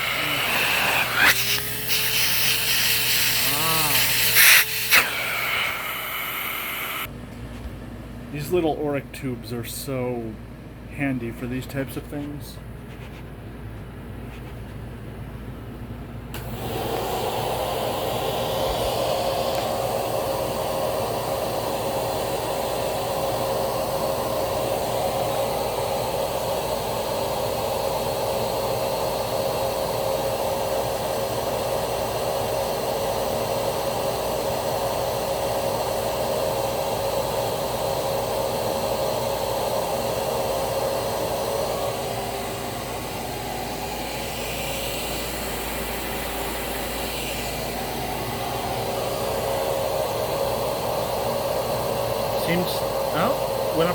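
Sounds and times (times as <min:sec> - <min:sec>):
vacuum cleaner motor whining: 0:00.0 - 0:07.1, 0:16.4 - 0:53.9.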